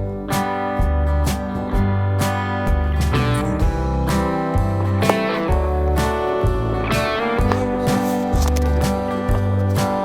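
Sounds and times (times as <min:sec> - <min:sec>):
country guitar music: 0:00.0 - 0:10.0.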